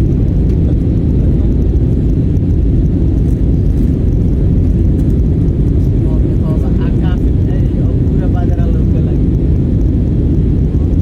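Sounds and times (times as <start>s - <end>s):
aeroplane engines rumbling: 0.0s - 11.0s.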